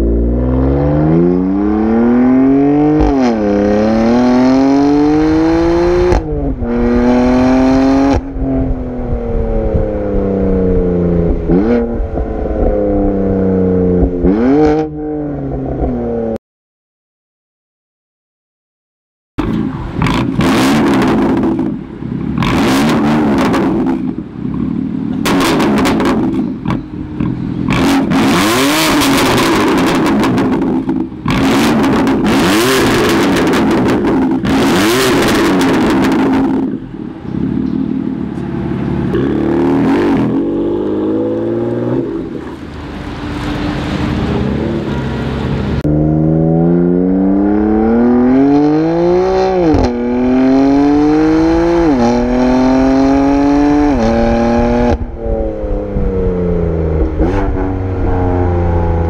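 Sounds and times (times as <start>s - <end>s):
car engine revving: 0.0s - 16.4s, 19.4s - 59.0s.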